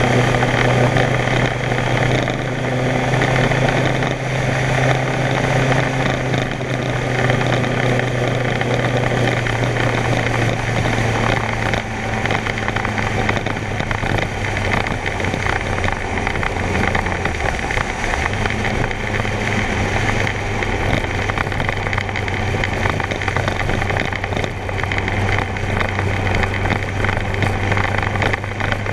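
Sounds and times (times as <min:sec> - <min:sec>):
motorcycle engine hum: 0:00.0 - 0:28.9
wind on microphone: 0:00.0 - 0:28.9.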